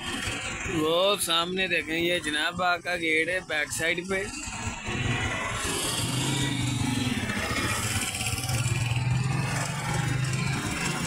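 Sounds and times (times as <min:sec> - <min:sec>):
motorcycles passing: 0:00.0 - 0:11.0
road noise: 0:00.0 - 0:11.0.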